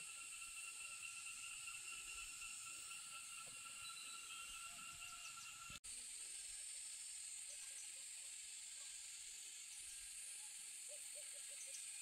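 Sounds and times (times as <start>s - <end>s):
faint high-pitched hiss: 0.0s - 12.0s.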